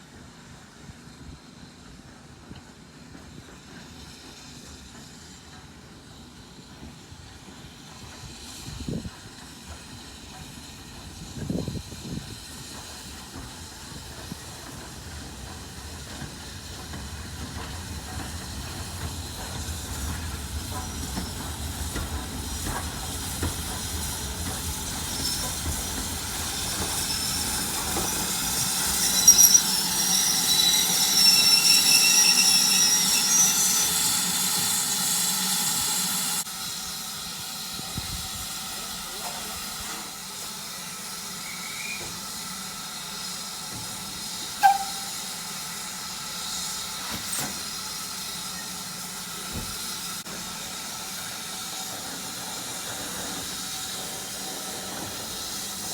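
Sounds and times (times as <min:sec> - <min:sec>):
train approaching: 0:00.0 - 0:55.9
train wheel squeal: 0:00.1 - 0:55.9.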